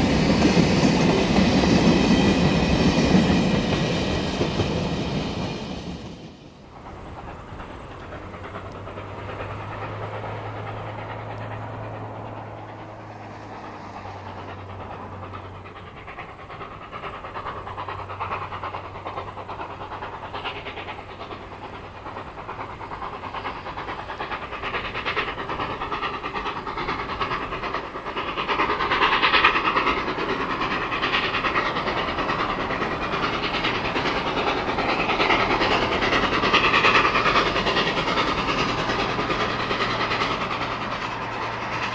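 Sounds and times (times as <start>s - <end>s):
steam locomotive chuffing: 0.0s - 41.9s.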